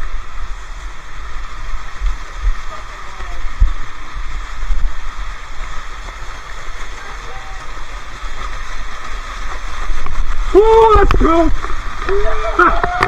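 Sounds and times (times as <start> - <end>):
waterfall rushing and splashing: 0.0 - 13.0.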